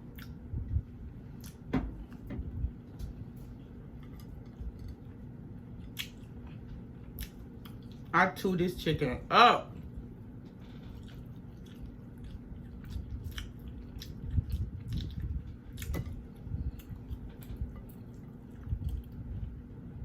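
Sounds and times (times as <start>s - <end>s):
chewing and biting food: 0.0s - 0.4s, 1.3s - 8.1s, 9.8s - 20.0s.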